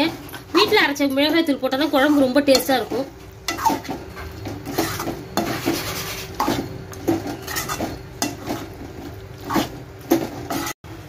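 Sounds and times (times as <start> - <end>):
metal spatula scraping a pan: 1.7 - 10.8.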